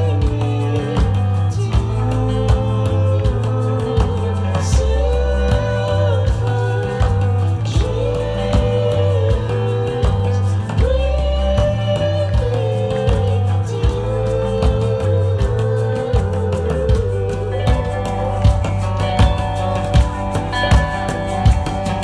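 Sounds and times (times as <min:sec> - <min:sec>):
bass guitar: 0:00.0 - 0:22.0
drums: 0:00.0 - 0:22.0
electric guitar: 0:00.0 - 0:22.0
person singing long notes: 0:00.0 - 0:22.0.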